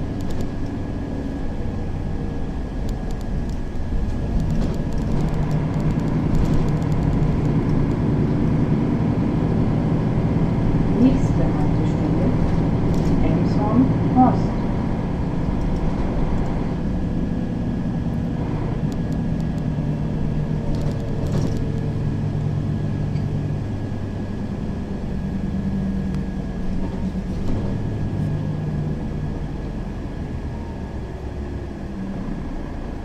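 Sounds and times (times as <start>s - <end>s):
bus engine running: 0.0s - 33.0s.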